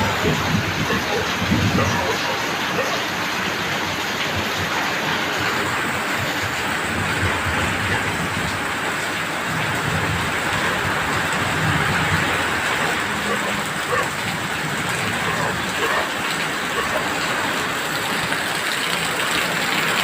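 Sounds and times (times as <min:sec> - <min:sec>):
heavy rain: 0:00.0 - 0:20.0
wind: 0:00.0 - 0:20.0.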